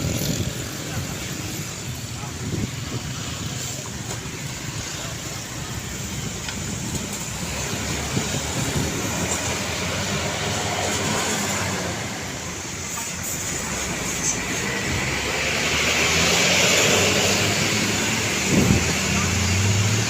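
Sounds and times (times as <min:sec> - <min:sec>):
tyre and wind noise: 0:00.0 - 0:15.6, 0:16.5 - 0:20.0
truck engines rumbling: 0:00.0 - 0:20.0.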